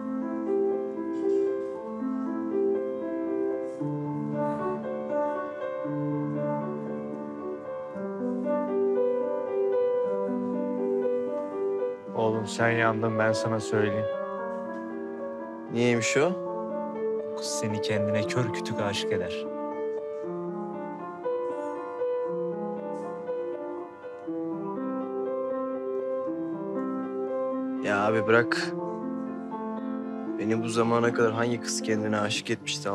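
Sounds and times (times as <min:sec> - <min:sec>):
slow piano melody: 0:00.0 - 0:32.9.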